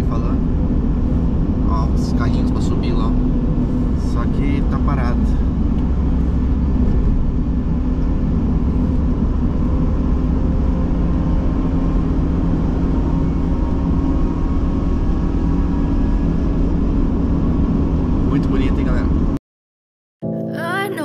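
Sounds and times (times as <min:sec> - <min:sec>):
engine and road noise: 0:00.0 - 0:19.4.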